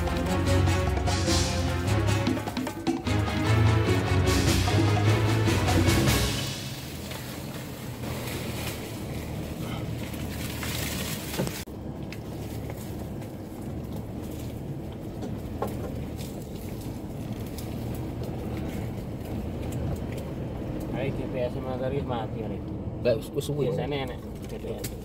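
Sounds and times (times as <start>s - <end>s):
engine running low: 0.0s - 25.0s.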